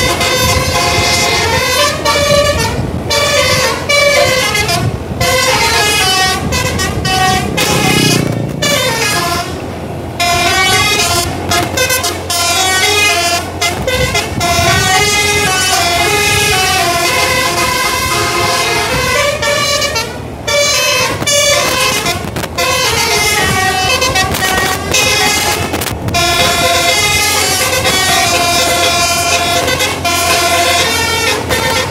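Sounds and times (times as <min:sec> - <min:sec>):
bus horn playing melodies: 0:00.0 - 0:31.9.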